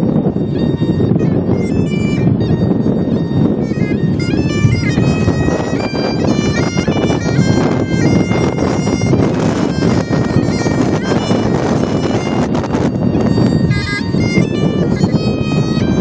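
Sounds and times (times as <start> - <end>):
bagpipes playing a melody: 0.0 - 16.0
wind buffeting the microphone: 0.0 - 16.0.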